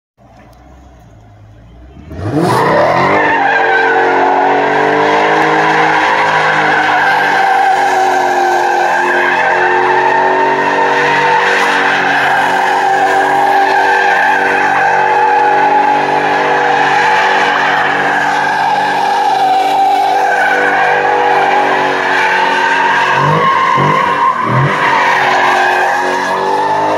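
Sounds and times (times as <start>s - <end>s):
car engine revving: 0.4s - 26.9s.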